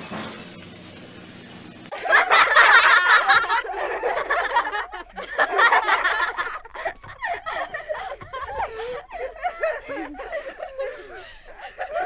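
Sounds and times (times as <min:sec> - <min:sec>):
people laughing: 0:01.9 - 0:12.0.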